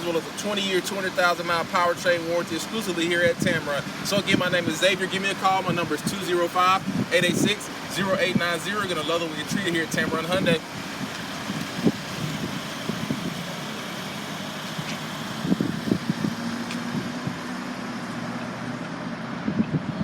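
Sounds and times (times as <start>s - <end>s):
steady vehicle noise: 0.0s - 20.0s.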